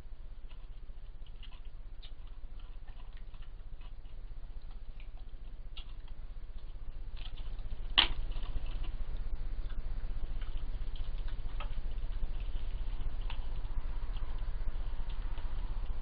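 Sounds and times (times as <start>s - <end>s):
low steady hum: 0.0s - 16.0s
badger eating clicks and crunches: 0.1s - 16.0s.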